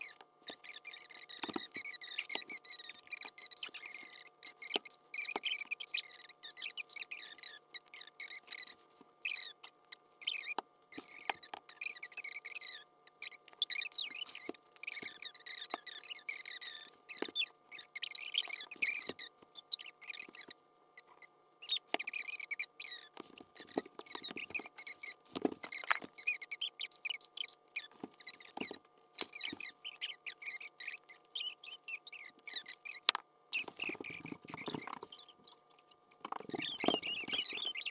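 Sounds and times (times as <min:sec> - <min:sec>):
stretchy strips squeaking: 0:00.0 - 0:37.9.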